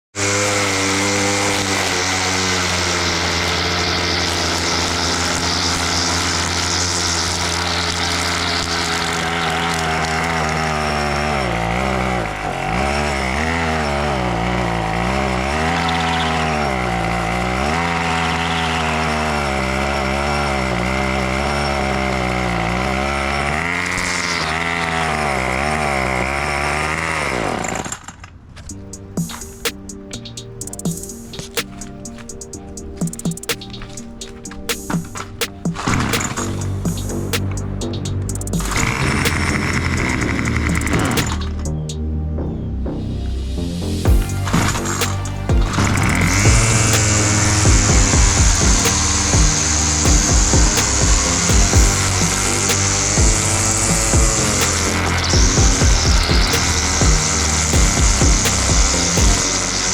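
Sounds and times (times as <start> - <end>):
lawnmower engine running: 0.0 - 27.9, 28.7 - 42.0, 44.1 - 59.9.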